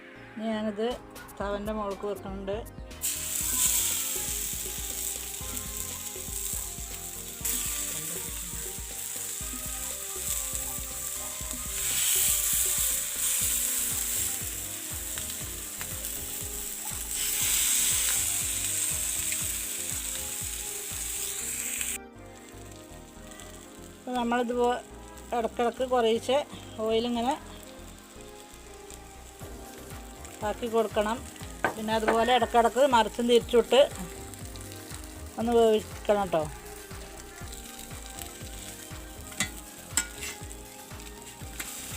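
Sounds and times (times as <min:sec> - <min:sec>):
chicken sizzling in oil: 0:03.0 - 0:41.9.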